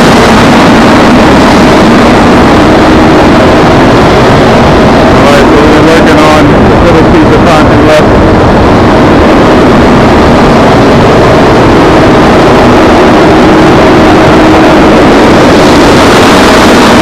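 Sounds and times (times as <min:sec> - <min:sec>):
faint steady hum: 0:00.0 - 0:17.0
heavy machinery engine running: 0:00.0 - 0:17.0.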